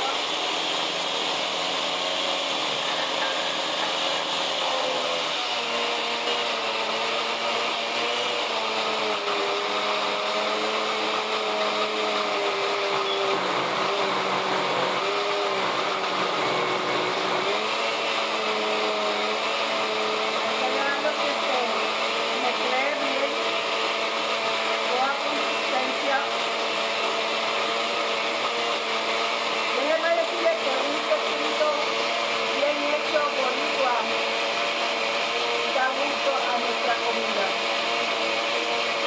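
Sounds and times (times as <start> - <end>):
blender motor running: 0.0 - 39.0.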